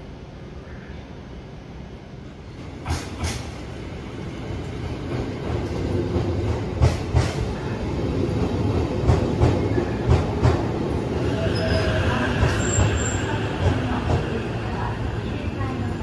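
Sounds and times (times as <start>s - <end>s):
electric train rumbling past: 0.0s - 16.0s.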